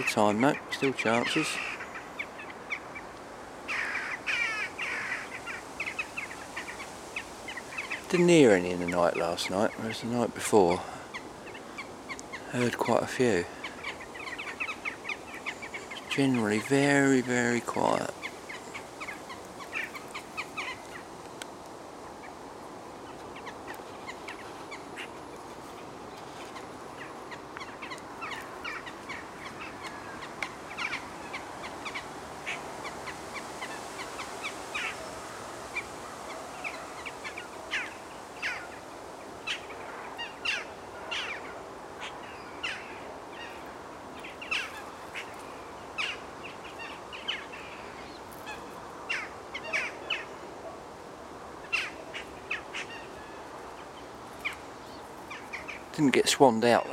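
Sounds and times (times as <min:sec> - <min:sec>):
birds chirping and calling: 0:00.0 - 0:22.4, 0:23.0 - 0:50.8, 0:51.6 - 0:56.9
faint background hiss: 0:00.0 - 0:56.9.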